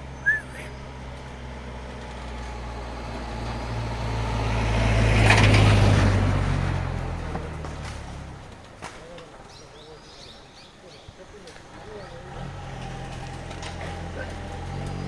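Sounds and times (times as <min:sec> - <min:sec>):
motor vehicle passing by: 0:00.0 - 0:09.0, 0:11.7 - 0:15.0.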